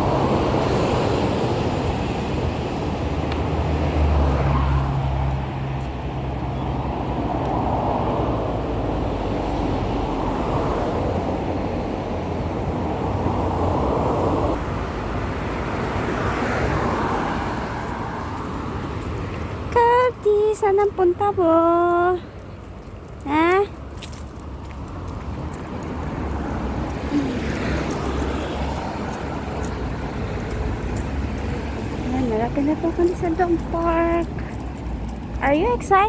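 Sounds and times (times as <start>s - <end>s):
cars passing on expressway: 0.0s - 36.0s
deep traffic rumble: 0.0s - 36.0s.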